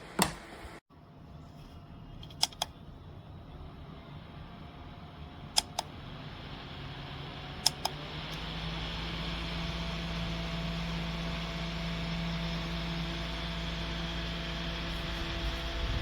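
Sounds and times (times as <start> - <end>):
desk fan hiss and hum: 0.0 - 16.0.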